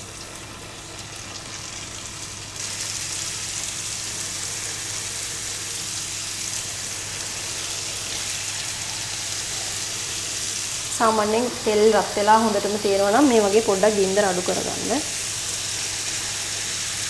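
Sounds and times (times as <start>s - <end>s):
dough deep-frying in oil: 0.0s - 17.0s.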